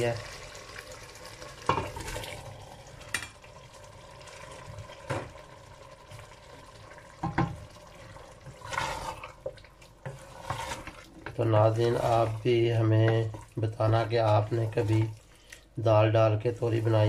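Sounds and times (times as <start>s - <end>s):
wet stirring in a pot: 3.3s - 17.0s.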